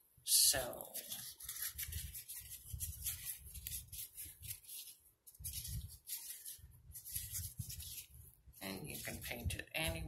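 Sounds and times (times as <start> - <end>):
cardboard rustling and scraping: 1.0 - 9.5.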